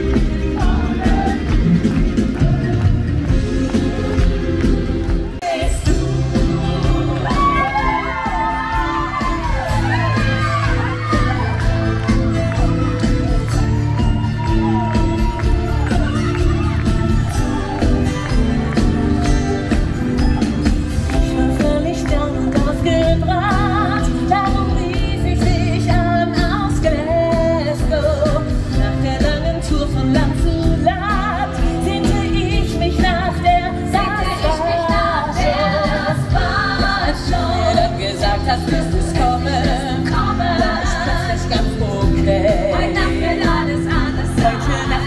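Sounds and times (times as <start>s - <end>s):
live band with singing: 0.0s - 45.0s.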